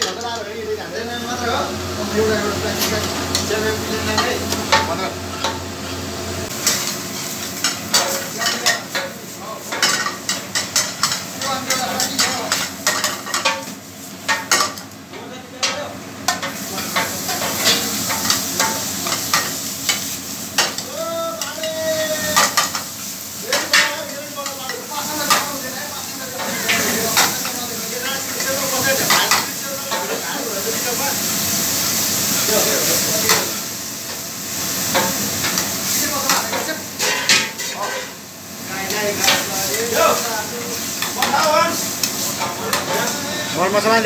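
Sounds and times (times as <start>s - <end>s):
food sizzling: 0.0s - 44.0s.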